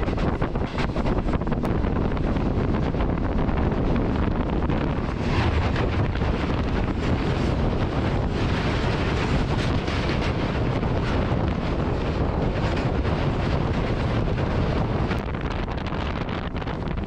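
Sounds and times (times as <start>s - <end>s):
wheels rumbling on rails: 0.0s - 17.0s
wind buffeting microphone: 0.0s - 17.0s.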